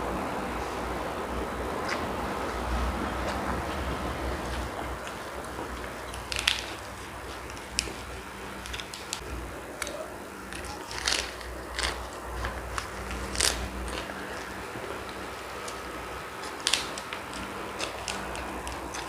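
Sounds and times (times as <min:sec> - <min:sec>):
low steady hum: 0:00.0 - 0:19.0
biting and chewing sausage: 0:01.8 - 0:19.0
crunchy clicks: 0:03.2 - 0:19.0.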